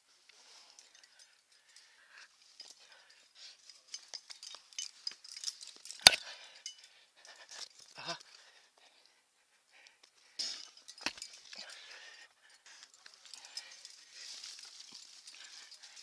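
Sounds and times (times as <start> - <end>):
metal climbing gear clinking: 0.0 - 16.0.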